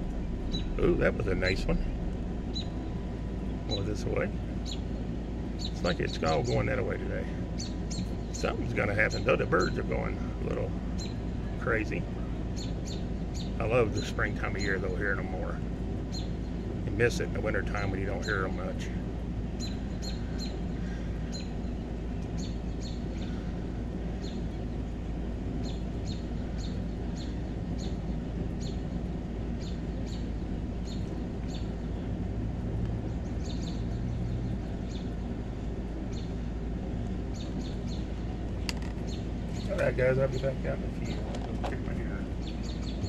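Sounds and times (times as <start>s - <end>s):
low background rumble: 0.0s - 43.0s
songbirds chirping: 0.0s - 43.0s.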